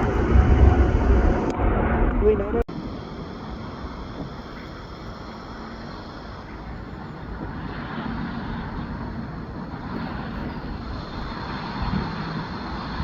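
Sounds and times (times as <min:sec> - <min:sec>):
jet airliner engine rumble: 0:00.0 - 0:13.0.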